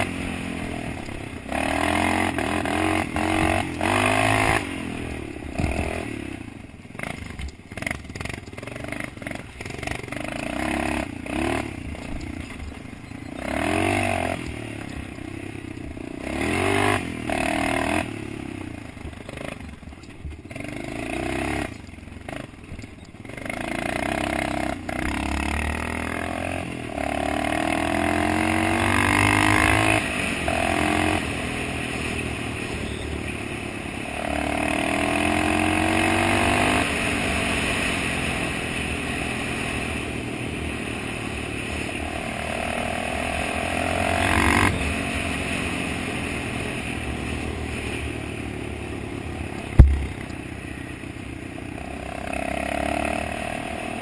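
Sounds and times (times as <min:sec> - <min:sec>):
dirt bike engine revving: 0:00.0 - 0:15.2, 0:15.8 - 0:19.8, 0:20.5 - 0:22.6, 0:23.2 - 0:48.7, 0:49.4 - 0:50.3, 0:51.8 - 0:54.0.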